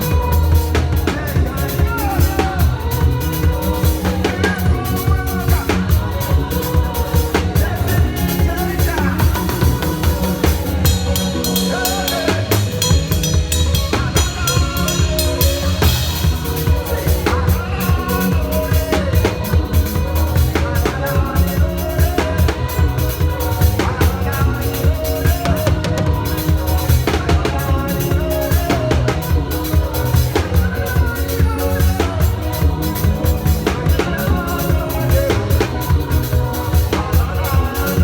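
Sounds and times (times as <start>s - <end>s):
band accompaniment: 0.0s - 38.0s
drum kit playing busy beat: 0.0s - 38.0s.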